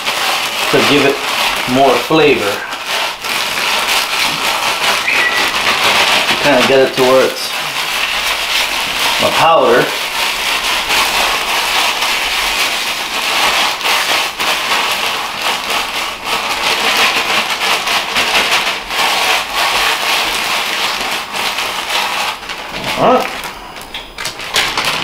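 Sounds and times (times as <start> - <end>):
chips crunching in plastic bag: 0.0 - 25.0.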